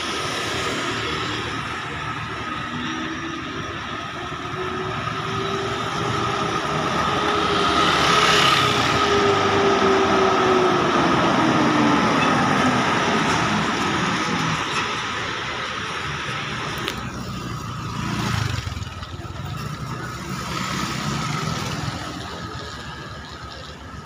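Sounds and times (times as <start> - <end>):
bus diesel engine passing: 0.0 - 24.0
motorcycles passing: 0.0 - 24.0.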